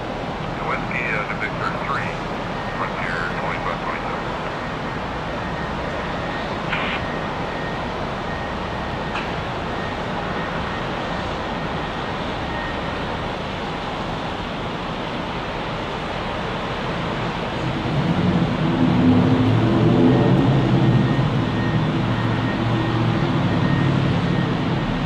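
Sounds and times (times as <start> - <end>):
distant jet: 0.0 - 25.0
distant road traffic: 0.0 - 25.0
wind: 0.0 - 25.0.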